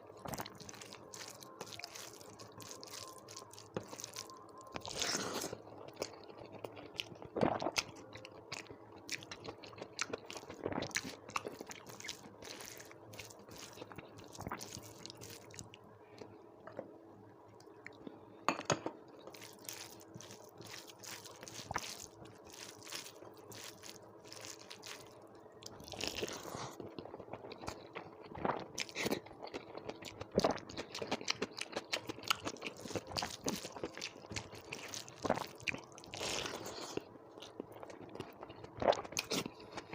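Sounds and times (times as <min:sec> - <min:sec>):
person crunching and chewing food: 0:00.0 - 0:15.8, 0:19.1 - 0:39.9
faint steady hum: 0:00.0 - 0:39.9.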